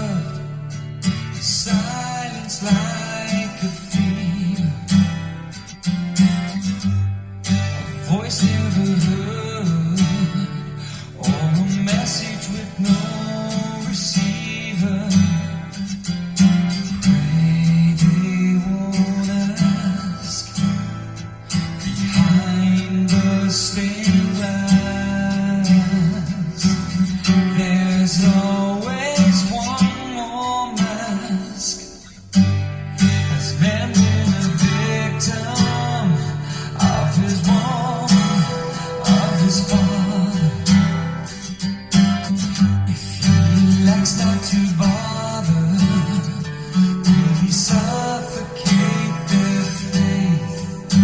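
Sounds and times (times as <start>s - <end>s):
person singing: 0.0s - 5.2s, 7.6s - 15.8s, 16.7s - 21.0s, 21.8s - 32.2s, 33.0s - 51.0s
strummed acoustic guitar: 0.0s - 51.0s.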